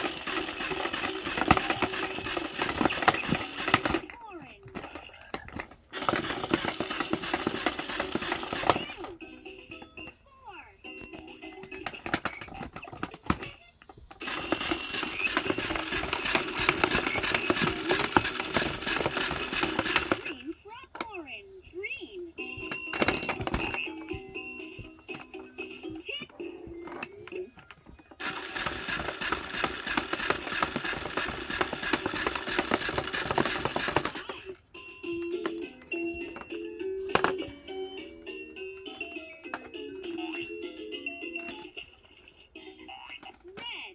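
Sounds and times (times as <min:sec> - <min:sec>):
toy mechanical whirring rattle: 0:00.0 - 0:43.9
toy taps and clicks: 0:00.0 - 0:43.9.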